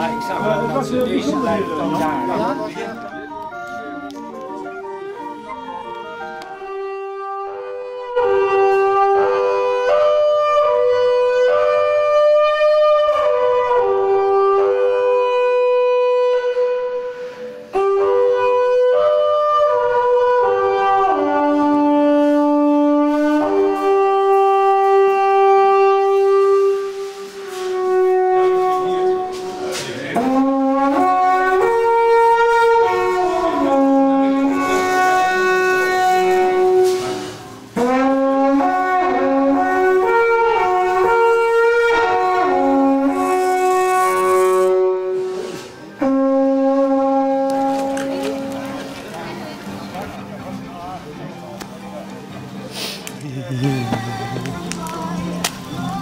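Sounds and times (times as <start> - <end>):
wooden horn playing slow tune: 0.0 - 50.4.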